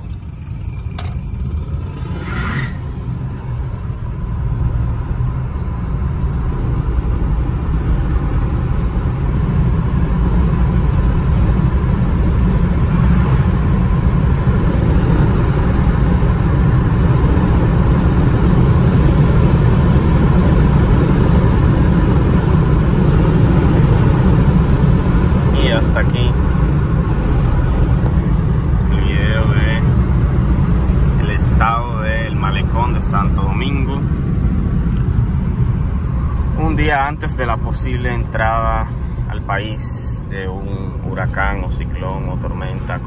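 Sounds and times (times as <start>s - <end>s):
car engine tyre and wind noise: 0.0s - 43.0s.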